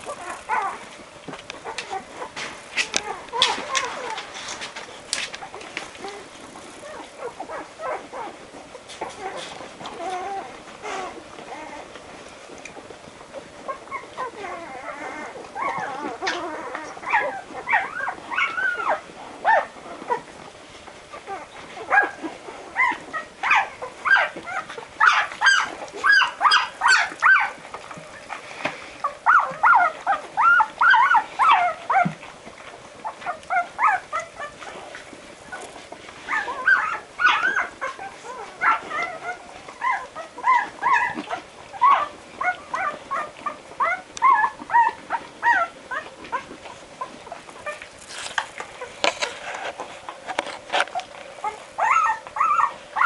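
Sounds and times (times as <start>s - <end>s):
puppies squeaking: 0.0s - 0.8s, 1.5s - 11.9s, 13.6s - 20.4s, 21.1s - 32.2s, 33.0s - 53.0s.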